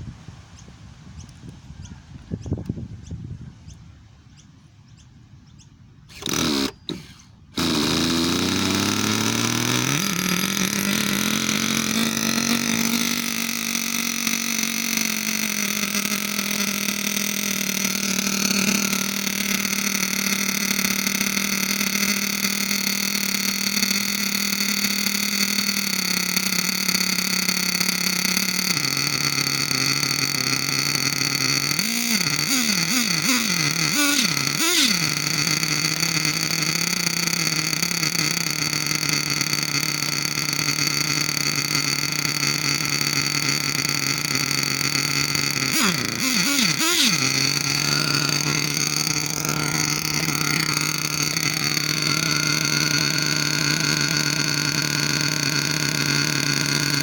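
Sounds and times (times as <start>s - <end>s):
model nitro engine revving: 6.0s - 57.0s.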